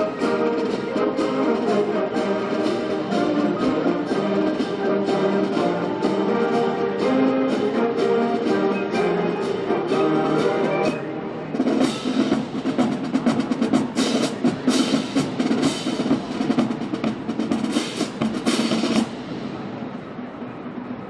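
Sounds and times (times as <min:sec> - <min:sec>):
snare drum rolls: 0:00.0 - 0:20.0.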